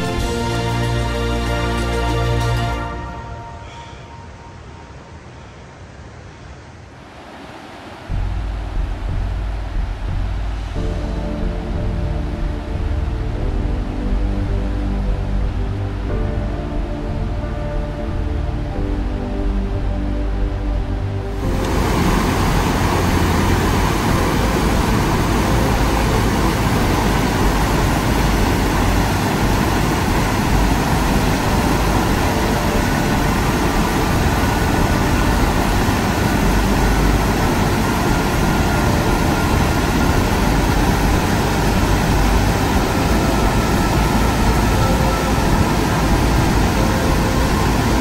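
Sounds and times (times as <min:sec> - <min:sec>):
waterfall roaring: 0:00.0 - 0:12.9, 0:21.3 - 0:48.0.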